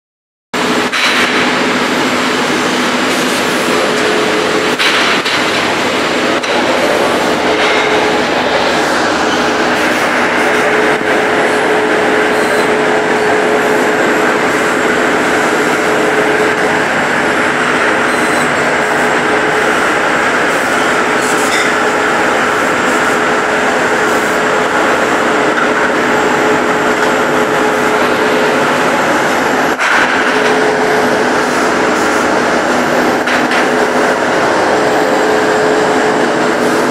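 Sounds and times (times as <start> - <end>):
steady machine hum: 0.6 - 36.9
textile machinery droning: 0.6 - 36.9.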